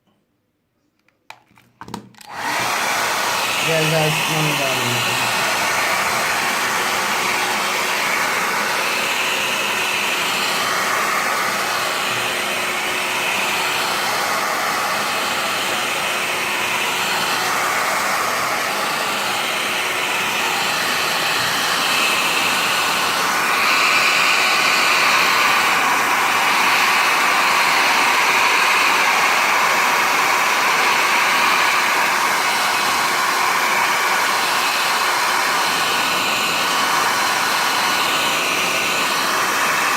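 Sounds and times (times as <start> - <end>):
hair dryer blowing: 2.2 - 39.9.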